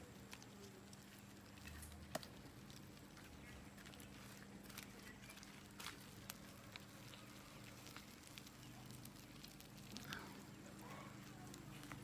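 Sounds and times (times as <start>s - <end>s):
faint clicks and crackles: 0.0s - 12.0s.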